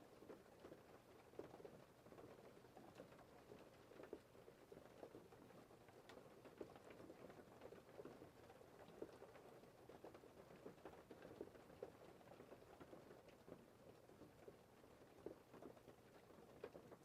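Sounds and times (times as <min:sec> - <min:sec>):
gentle rain patter: 0:00.0 - 0:17.0.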